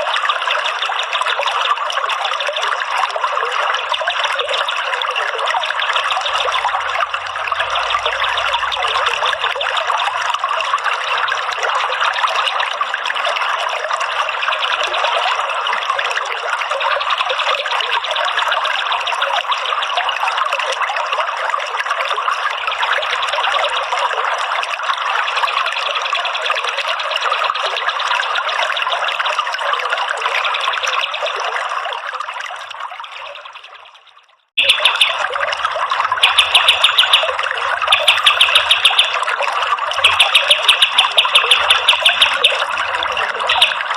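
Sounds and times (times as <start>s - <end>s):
trickling running water: 0.0s - 43.9s.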